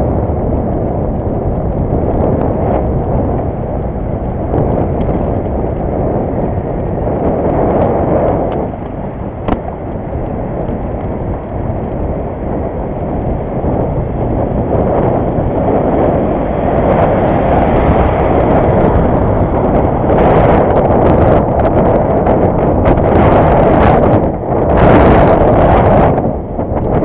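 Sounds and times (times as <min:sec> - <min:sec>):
bicycle road noise: 0:00.0 - 0:27.0
wind noise on microphone: 0:00.0 - 0:27.0.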